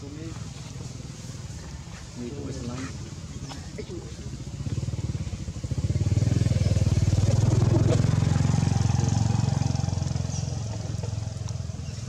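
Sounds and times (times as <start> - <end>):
vehicle engine running: 0.2 - 12.0.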